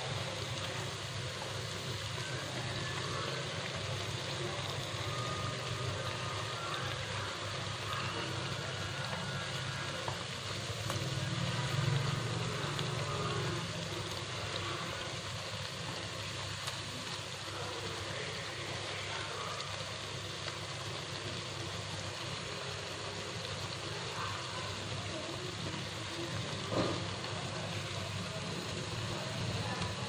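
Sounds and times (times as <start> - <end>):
fritters deep-frying in hot oil: 0.0 - 30.0.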